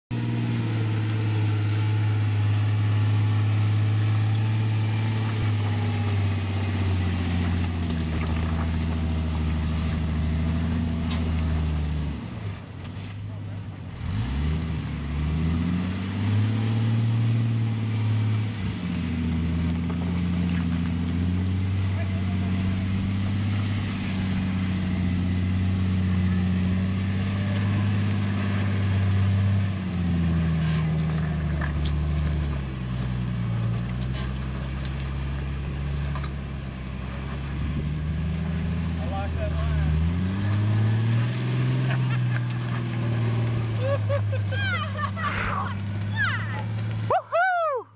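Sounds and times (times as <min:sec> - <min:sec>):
engine labouring at low speed: 0:00.1 - 0:47.9.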